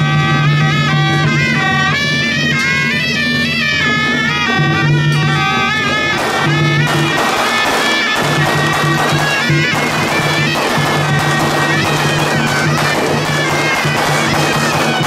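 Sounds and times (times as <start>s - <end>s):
cymbals clashing: 0.0s - 15.0s
reed horn melody: 0.0s - 15.0s.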